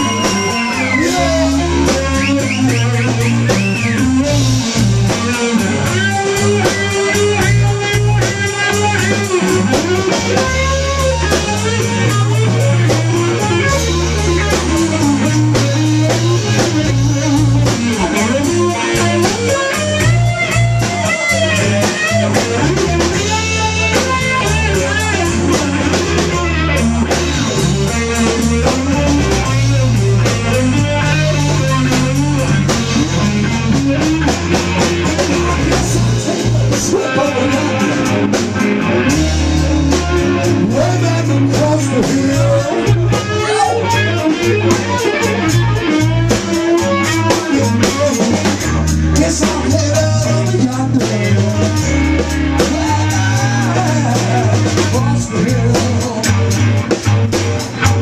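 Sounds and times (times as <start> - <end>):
bass guitar: 0.0 - 58.0
drum kit: 0.0 - 58.0
electric guitar lead: 0.0 - 58.0.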